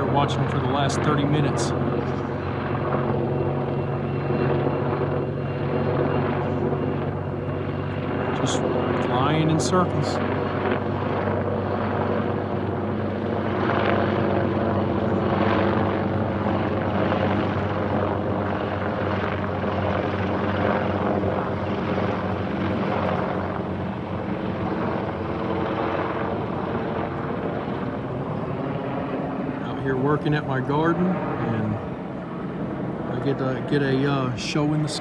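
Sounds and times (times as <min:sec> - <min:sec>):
helicopter rotor drone: 0:00.0 - 0:35.0.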